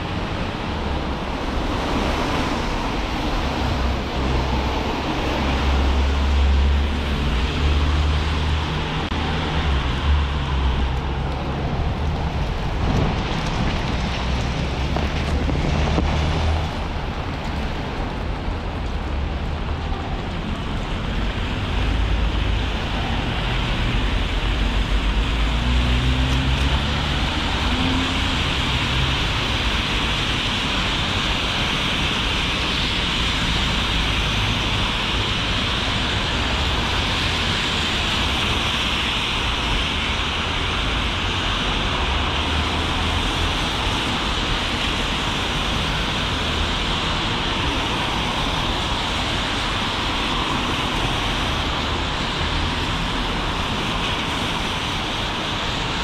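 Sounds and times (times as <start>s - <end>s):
vehicles passing on wet street: 0.0s - 56.0s.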